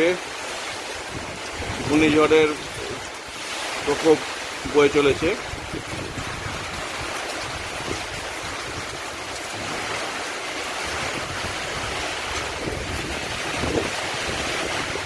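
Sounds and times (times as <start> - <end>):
strong wind with rain: 0.0 - 15.0
wind gusts rumbling on microphone: 0.0 - 15.0.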